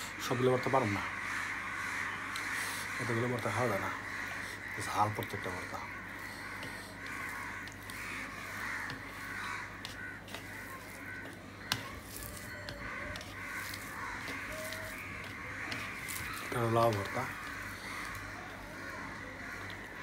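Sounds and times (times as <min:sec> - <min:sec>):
crows cawing: 0:00.0 - 0:20.0
hand mixing food on steel plate: 0:02.2 - 0:20.0.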